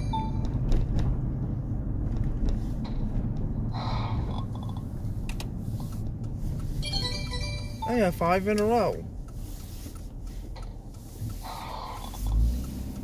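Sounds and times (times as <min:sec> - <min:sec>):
car rumble inside cabin: 0:00.0 - 0:13.0.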